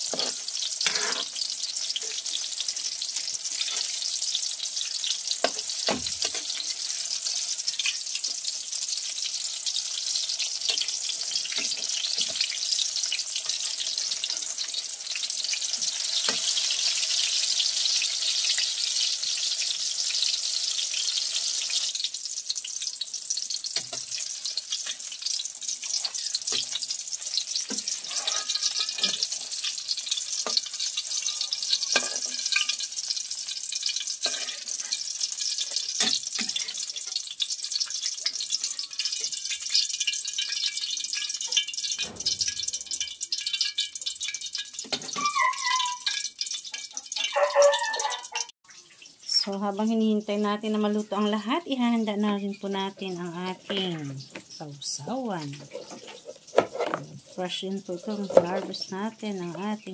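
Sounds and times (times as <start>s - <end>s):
fritters sizzling in hot oil: 0.0s - 59.9s.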